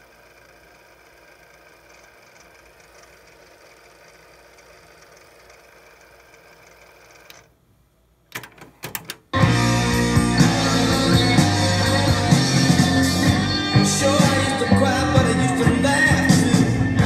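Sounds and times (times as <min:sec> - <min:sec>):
cassette deck hum: 0:00.0 - 0:17.0.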